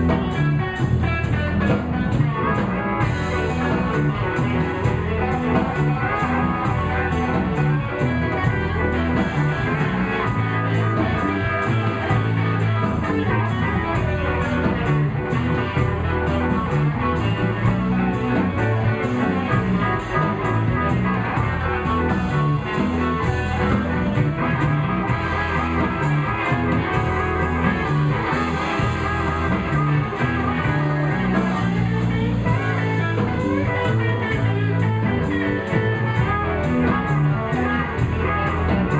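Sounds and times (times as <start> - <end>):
bass: 0.0 - 38.9
drums keeping a steady beat: 0.0 - 38.9
electric guitar: 0.0 - 38.9.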